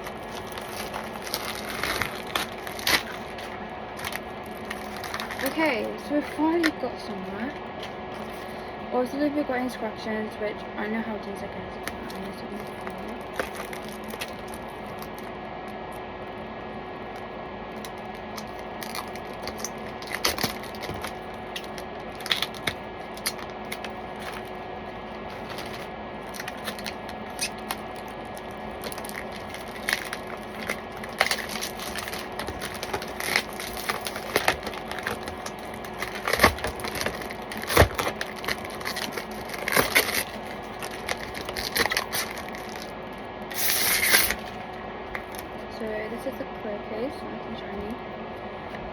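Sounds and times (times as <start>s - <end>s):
plastic packaging crinkling: 0.0s - 8.7s, 11.6s - 16.0s, 17.2s - 45.6s.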